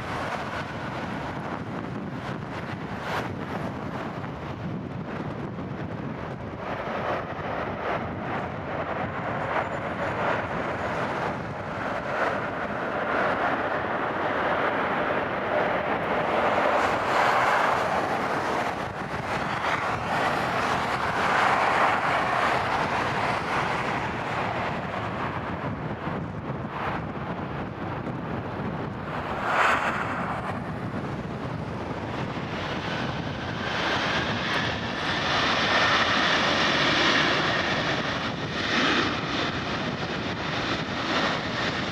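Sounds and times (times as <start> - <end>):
jet engines rushing: 0.0 - 41.9.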